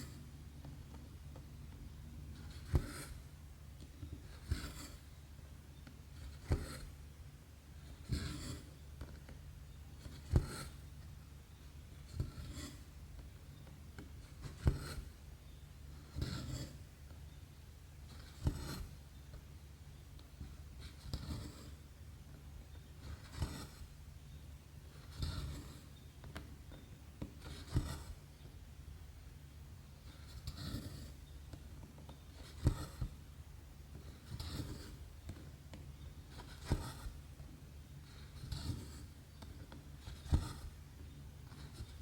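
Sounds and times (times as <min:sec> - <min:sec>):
faint low hum: 0:00.0 - 0:42.0.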